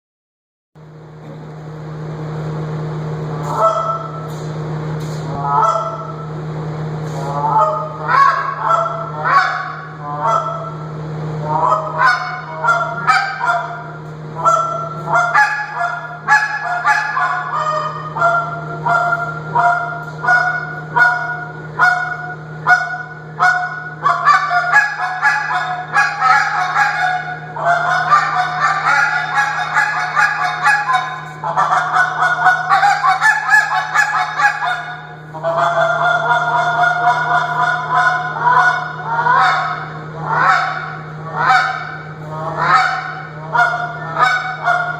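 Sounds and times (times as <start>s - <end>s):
steady low hum: 0.8s - 44.9s
goose call honks and clucks: 3.4s - 4.3s, 5.3s - 6.2s, 7.0s - 44.9s.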